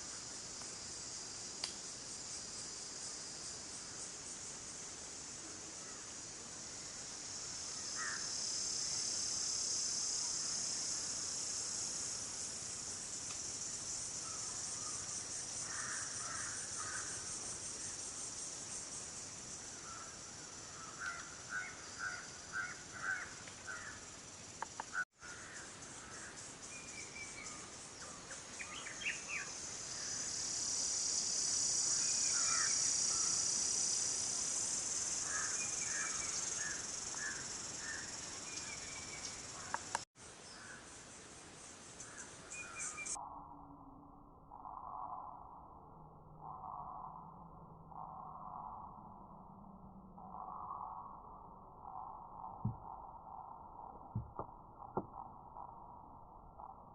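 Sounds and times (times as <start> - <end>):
insects chorus: 0.0 - 56.9.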